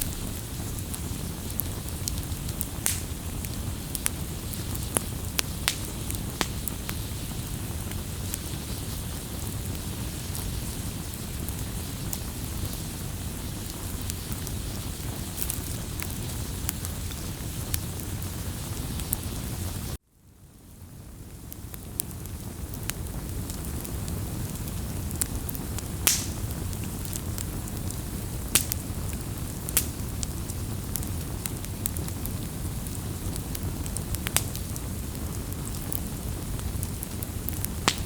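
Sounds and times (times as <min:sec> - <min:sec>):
fire popping and snapping: 0:00.0 - 0:38.0
low rumble of flames: 0:00.0 - 0:38.0
wood fire crackling: 0:00.0 - 0:38.0.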